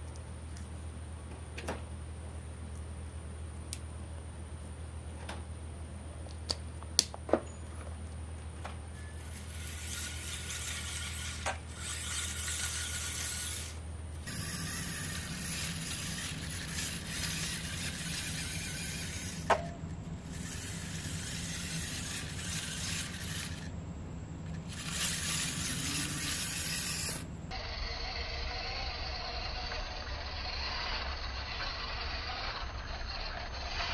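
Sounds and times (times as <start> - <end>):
electric motor and gears whirring: 6.5 - 33.9.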